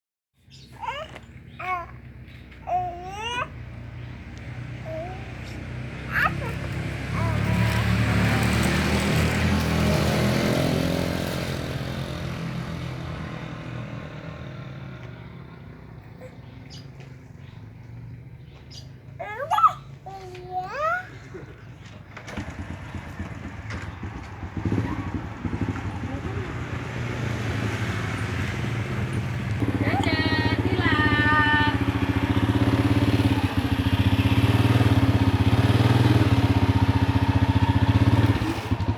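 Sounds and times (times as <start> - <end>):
vehicle engine driving away: 0.4 - 38.9.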